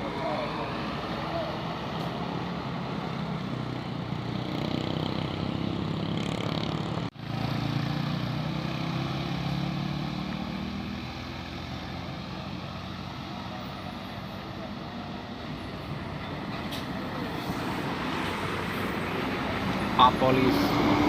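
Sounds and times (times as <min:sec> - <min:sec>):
bus diesel engine under load: 0:00.0 - 0:21.0.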